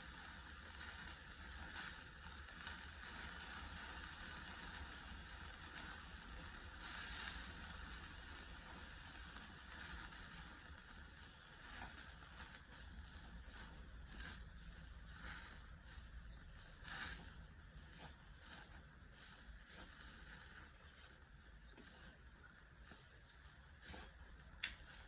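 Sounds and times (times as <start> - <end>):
meat sizzling over a fire: 0.0 - 25.0.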